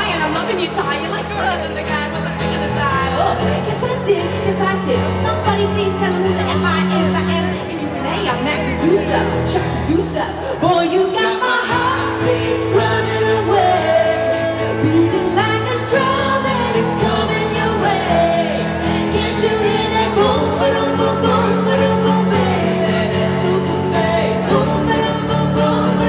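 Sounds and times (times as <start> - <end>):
keyboard accompaniment: 0.0 - 26.0
woman singing pop song: 0.0 - 26.0.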